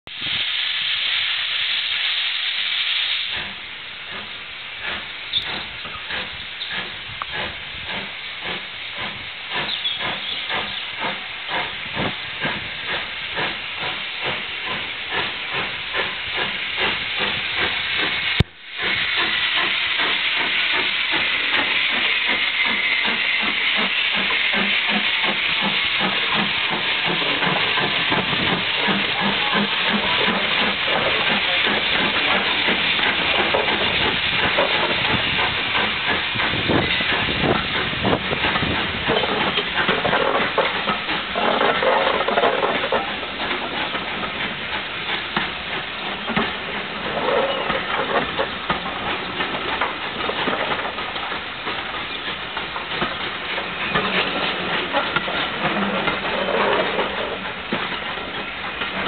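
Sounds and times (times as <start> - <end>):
steam hissing: 0.1 - 59.0
steam locomotive exhaust chuffs: 0.1 - 59.0.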